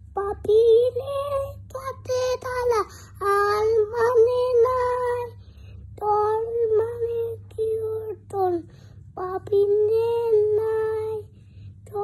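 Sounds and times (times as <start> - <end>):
low steady hum: 0.0 - 12.0
child singing: 0.1 - 5.4, 6.0 - 12.0.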